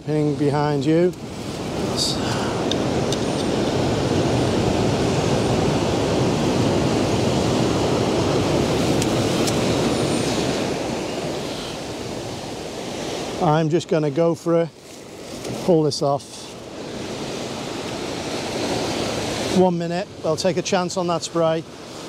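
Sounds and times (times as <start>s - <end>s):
surf washing over boulders: 0.0s - 22.0s.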